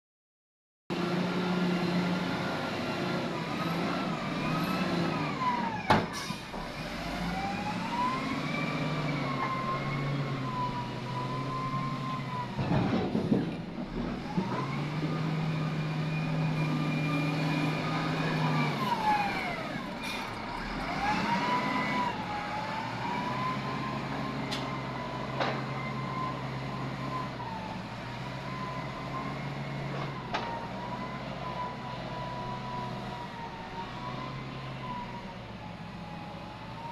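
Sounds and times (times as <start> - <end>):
excavator engine and hydraulics: 0.9 - 36.9.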